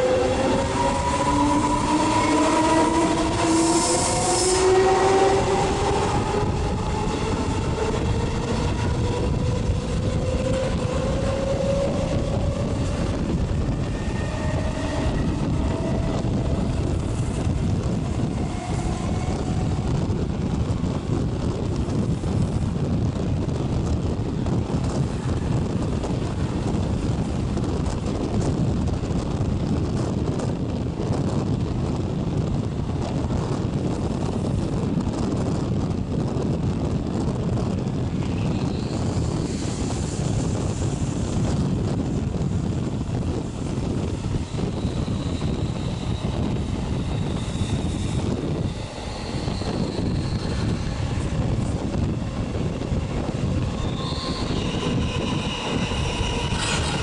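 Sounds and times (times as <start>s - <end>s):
train rumbling on track: 0.0s - 57.0s
wind blowing across microphone: 0.0s - 57.0s.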